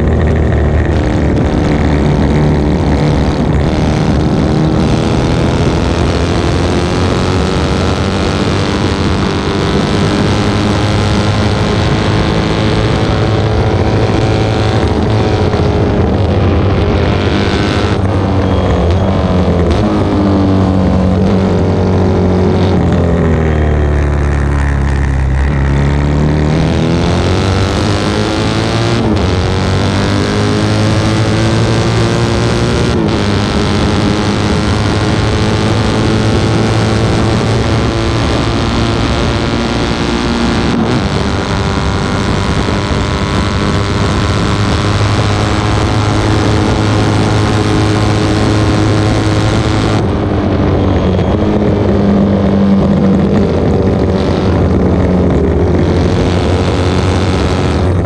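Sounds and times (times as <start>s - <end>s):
motorcycle engine at racing revs: 0.0s - 58.0s
wind noise: 0.0s - 58.0s.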